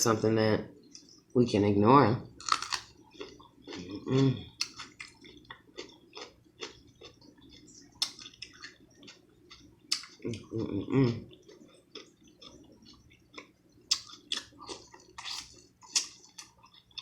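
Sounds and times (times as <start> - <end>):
close chewing with mouth clicks: 2.4 - 17.0.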